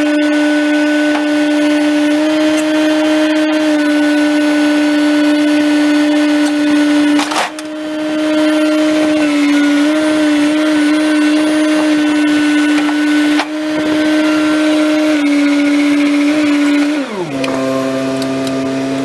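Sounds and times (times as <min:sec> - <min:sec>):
loader engine whining: 0:00.0 - 0:19.0.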